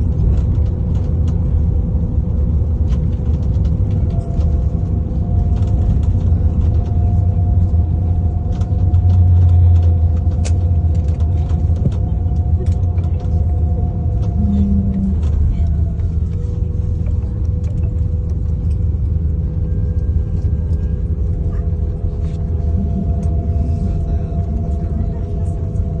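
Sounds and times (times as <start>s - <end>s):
airplane rolling and braking: 0.0s - 26.0s
faint whine: 0.0s - 26.0s.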